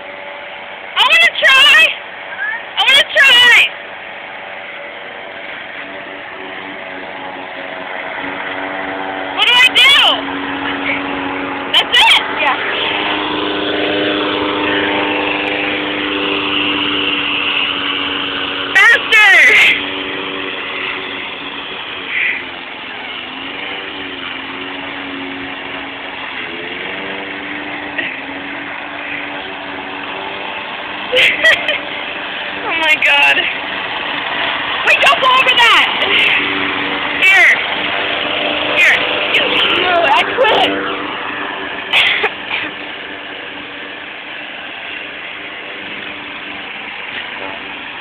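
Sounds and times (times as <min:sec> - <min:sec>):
lawn mower engine running: 0:00.0 - 0:48.0
mower clatter: 0:00.0 - 0:48.0.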